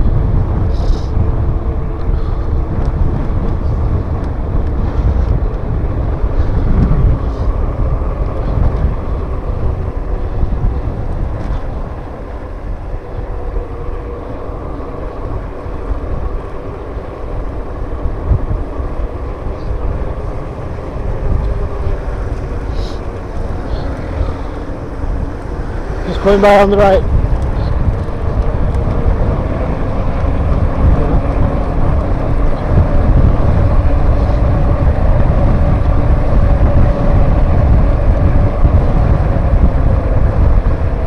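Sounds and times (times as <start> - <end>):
electric bike motor whine: 0.0 - 41.0
wind buffeting microphone: 0.0 - 41.0.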